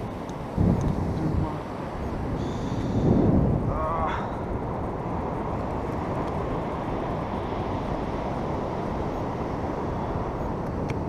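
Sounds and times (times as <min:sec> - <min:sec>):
ocean surf rumbling: 0:00.0 - 0:11.0
wind on microphone: 0:00.0 - 0:11.0.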